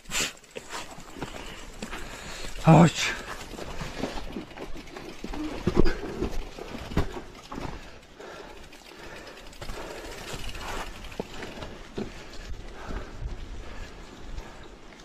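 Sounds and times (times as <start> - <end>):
bike knocking and rattling: 0.0 - 15.0
bike tyres on loose dirt: 0.0 - 15.0.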